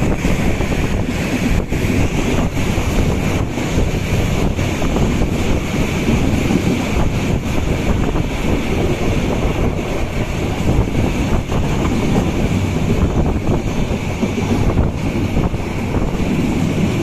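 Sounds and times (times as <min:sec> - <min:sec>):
train running on track: 0:00.0 - 0:17.0
wind buffeting microphone: 0:00.0 - 0:17.0.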